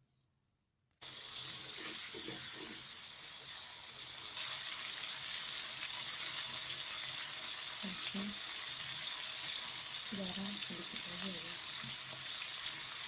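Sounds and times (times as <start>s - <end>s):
food sizzling in a frying pan: 1.0s - 13.0s.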